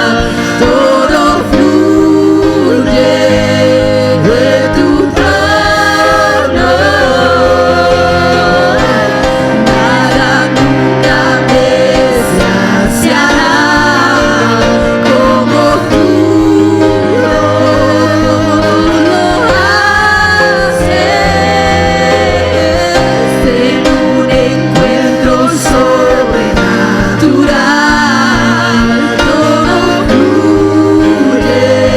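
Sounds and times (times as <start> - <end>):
instrumental accompaniment: 0.0 - 31.9
voices singing gospel: 0.0 - 31.9.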